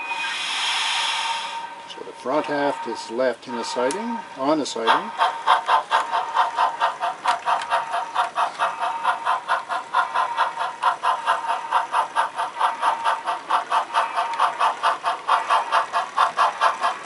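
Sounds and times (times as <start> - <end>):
model steam locomotive chuffing: 0.0 - 17.0.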